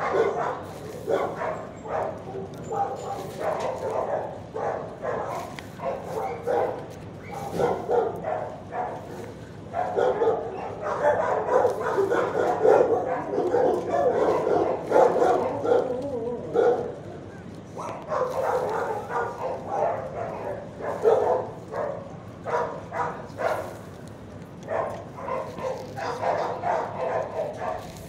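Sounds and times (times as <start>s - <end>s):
dogs barking and yipping: 0.0s - 28.0s.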